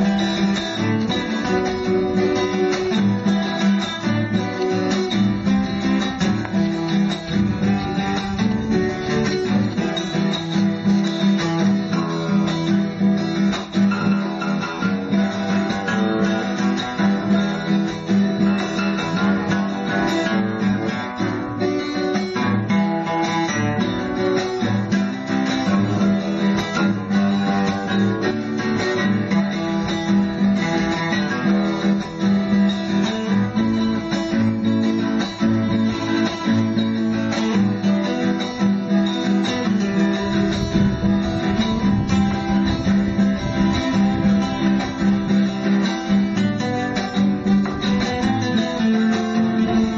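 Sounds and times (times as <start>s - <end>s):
acoustic guitar plucked and strummed: 0.0s - 49.9s.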